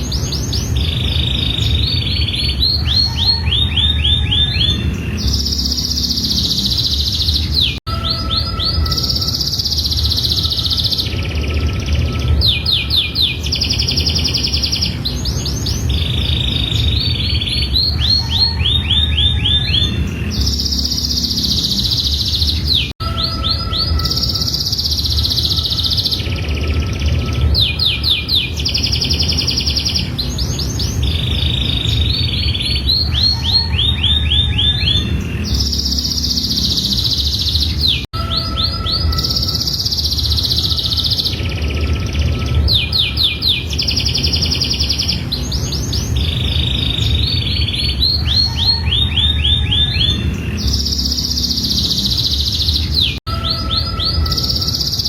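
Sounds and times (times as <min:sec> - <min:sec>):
low hum: 0:00.0 - 0:48.5, 0:49.6 - 0:53.2
canary singing trills: 0:00.0 - 0:55.0.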